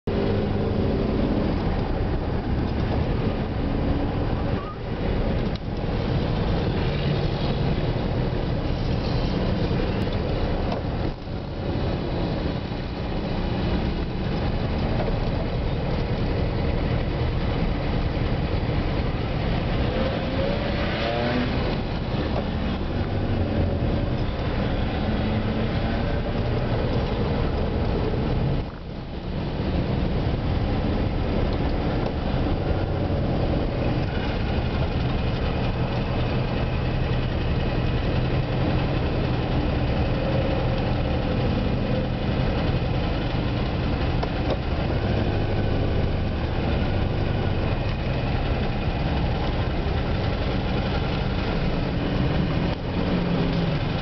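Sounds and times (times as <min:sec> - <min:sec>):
car engine running: 0:00.0 - 0:54.0
road noise inside car: 0:00.0 - 0:54.0.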